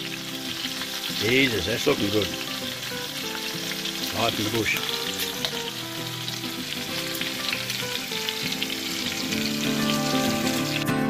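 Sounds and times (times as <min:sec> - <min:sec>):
meat sizzling in hot oil: 0:00.0 - 0:11.0
soft tune playing: 0:00.4 - 0:11.0.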